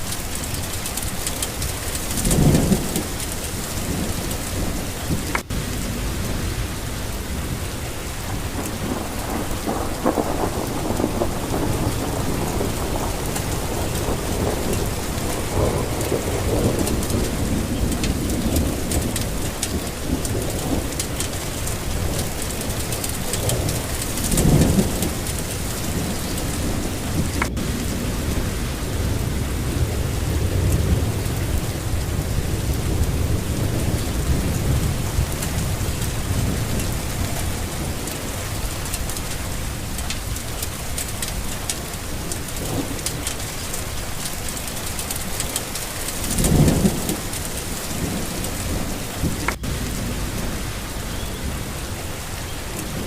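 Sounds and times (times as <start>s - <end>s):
rolling thunder: 0.0s - 53.0s
steady rain falling: 0.0s - 53.0s.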